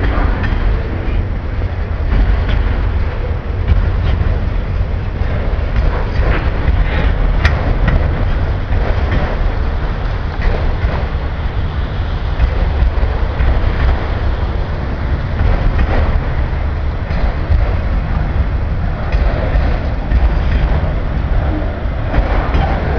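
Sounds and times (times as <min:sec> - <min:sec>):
train clicks and clanks: 0:00.0 - 0:22.9
train wheels rumbling on rail: 0:00.0 - 0:22.9.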